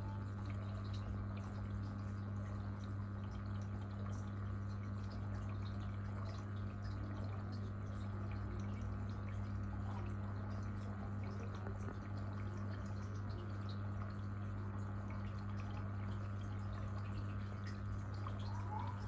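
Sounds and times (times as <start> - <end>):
aquarium water trickling: 0.0 - 19.0
tank pump hum: 0.0 - 19.0.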